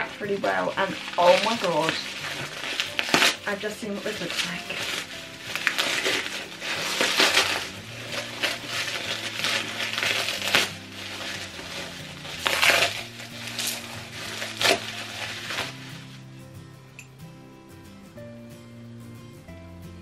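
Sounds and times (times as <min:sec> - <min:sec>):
bubble wrap crinkling: 0:00.0 - 0:16.6.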